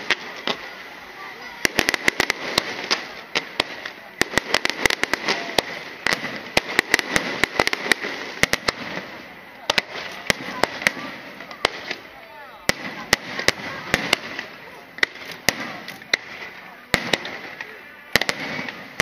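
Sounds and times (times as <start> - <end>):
firework shells bursting: 0.0 - 19.0
fireworks crackle: 0.0 - 19.0.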